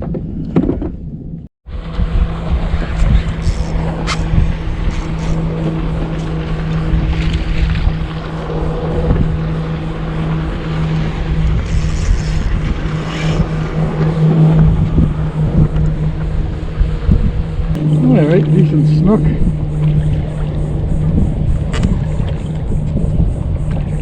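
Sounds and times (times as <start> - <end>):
gusty rumble: 0.0 - 24.0
low motor hum: 0.0 - 24.0.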